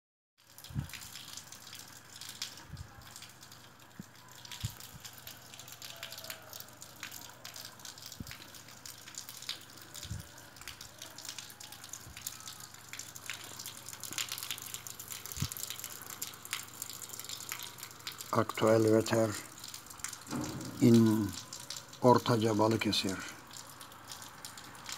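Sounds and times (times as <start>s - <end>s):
wet snow pattering and dripping: 0.4s - 24.9s.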